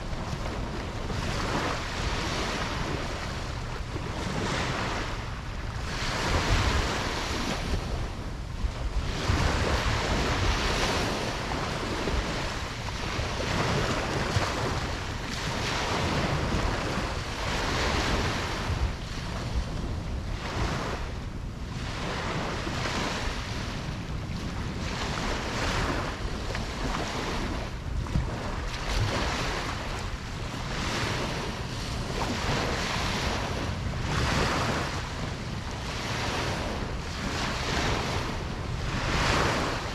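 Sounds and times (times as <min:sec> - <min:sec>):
ocean waves breaking on beach: 0:00.0 - 0:39.9
wind rumble on microphone: 0:00.0 - 0:39.9.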